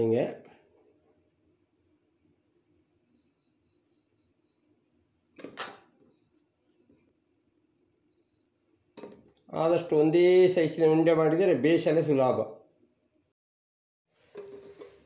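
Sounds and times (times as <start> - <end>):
crickets chirring: 0.0 - 13.4.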